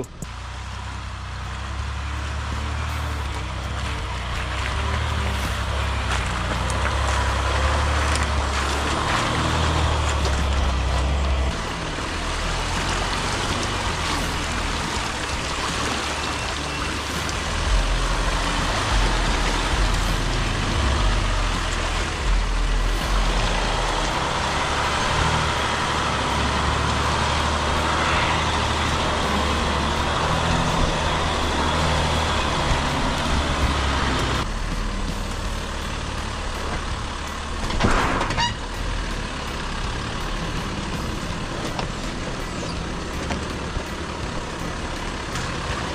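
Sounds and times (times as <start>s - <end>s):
off-road vehicle engine running: 0.0s - 45.9s
tyres in mud: 0.0s - 45.9s.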